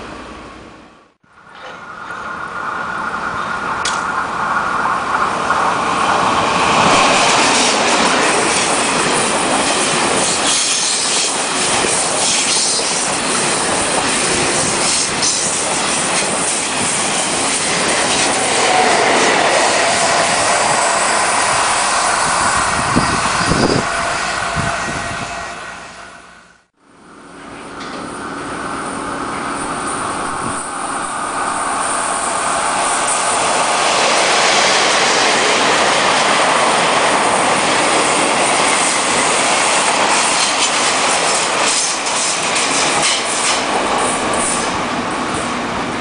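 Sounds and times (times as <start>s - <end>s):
train wheels rushing on rail: 1.4s - 46.0s.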